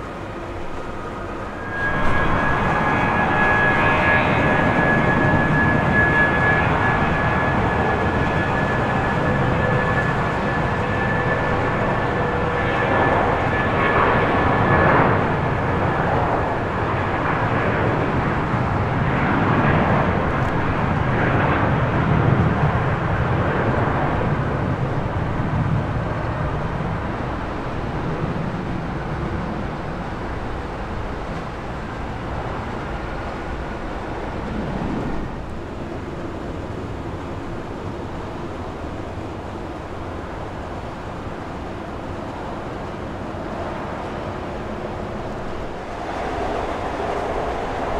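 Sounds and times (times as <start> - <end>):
faint jet engine whine: 0.0 - 47.9
jet airliner rumble passing: 0.0 - 47.9.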